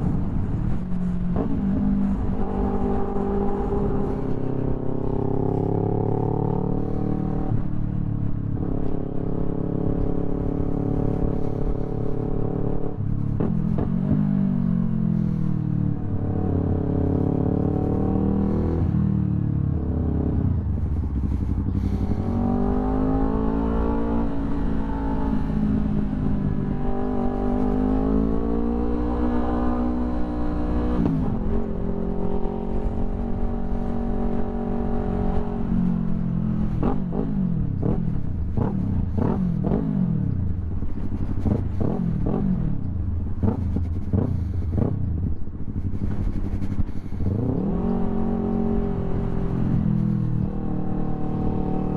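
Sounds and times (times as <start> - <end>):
motorcycle engine: 0.0 - 51.9
traffic: 0.0 - 51.9.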